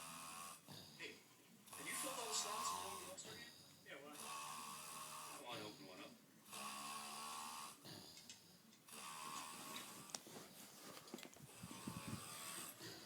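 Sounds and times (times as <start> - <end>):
man snoring: 0.0 - 8.3, 8.9 - 10.1, 11.5 - 13.0.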